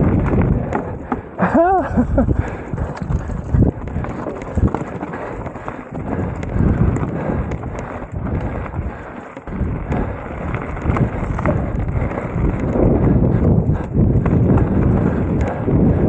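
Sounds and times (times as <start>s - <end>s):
bike tyres on rough trail: 0.0s - 16.0s
knocks and rattles over bumps: 0.0s - 16.0s
wind buffeting microphone: 0.0s - 16.0s.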